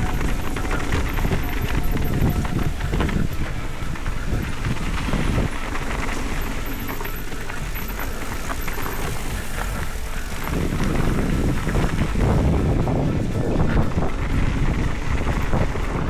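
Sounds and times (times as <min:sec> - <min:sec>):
bike rattles and clicks: 0:00.0 - 0:16.0
bike tyres rumbling: 0:00.0 - 0:16.0
wind on microphone: 0:00.0 - 0:16.0.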